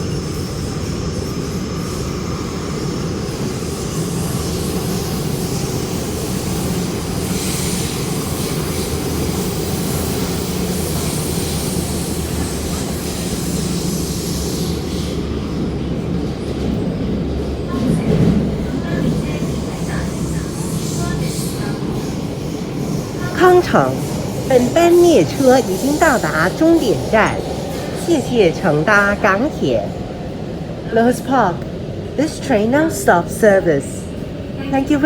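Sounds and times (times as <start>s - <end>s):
train cabin low rumble: 0.0s - 35.0s.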